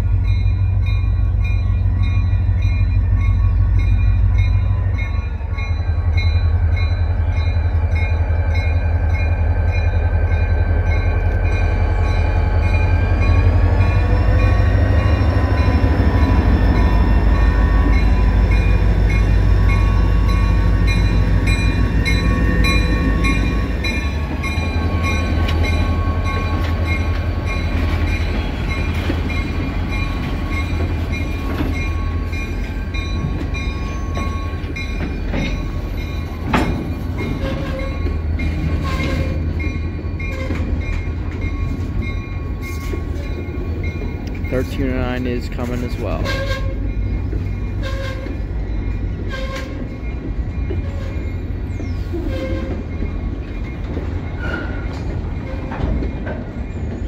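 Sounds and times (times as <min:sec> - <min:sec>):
diesel locomotive engine throbbing: 0:00.0 - 0:57.0.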